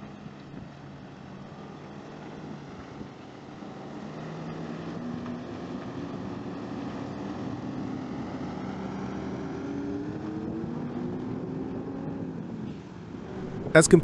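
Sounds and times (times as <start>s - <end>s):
heavy engine running: 0.0s - 14.0s.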